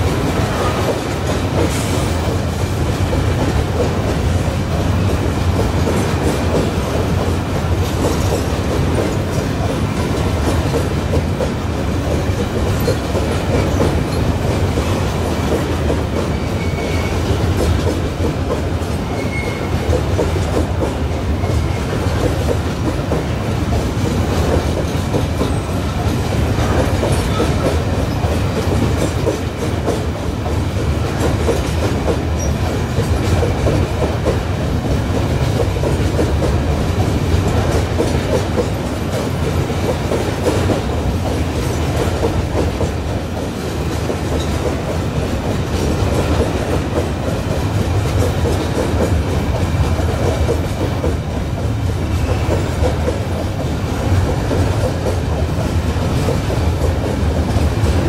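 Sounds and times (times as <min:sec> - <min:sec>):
low rumble of passing train: 0:00.0 - 0:58.0
steel wheels clattering on rails: 0:00.0 - 0:58.0.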